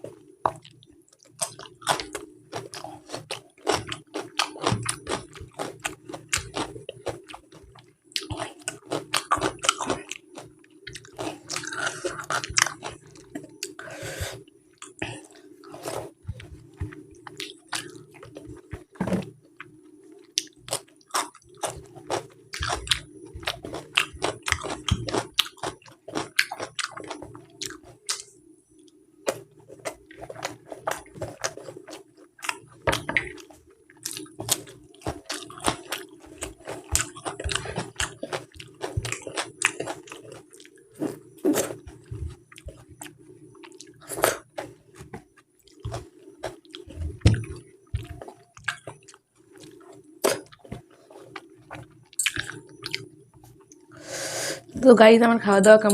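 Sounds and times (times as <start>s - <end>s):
close chewing mouth sounds: 0.0s - 54.0s
steady low hum: 0.0s - 55.9s.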